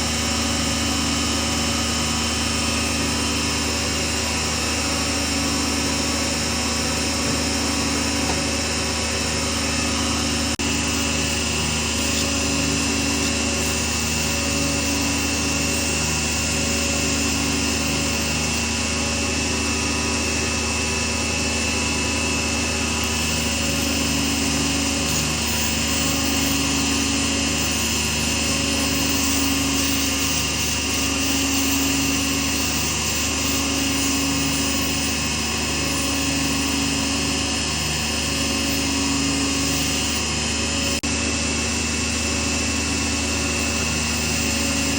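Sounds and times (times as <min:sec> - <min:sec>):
lathe motor humming: 0:00.0 - 0:44.9.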